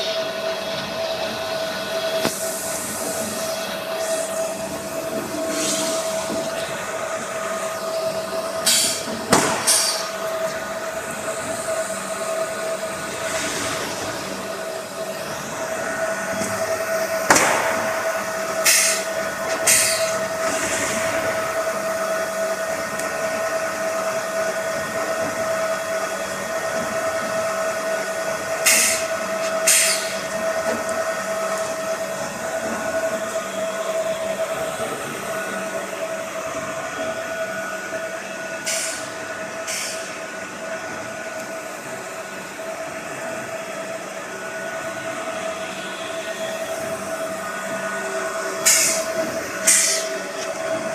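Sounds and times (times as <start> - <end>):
compactor mechanical whine: 0.0 - 50.9.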